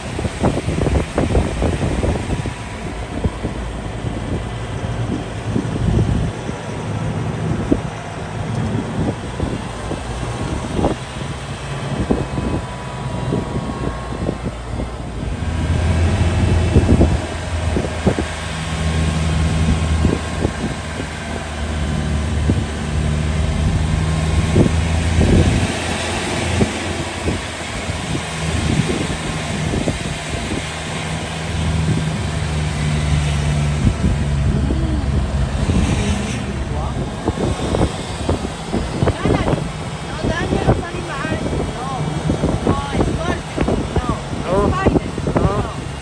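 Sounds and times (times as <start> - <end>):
tyre and road noise: 0.0 - 46.0
vehicle engine running: 0.0 - 46.0
wind buffeting microphone: 0.0 - 46.0.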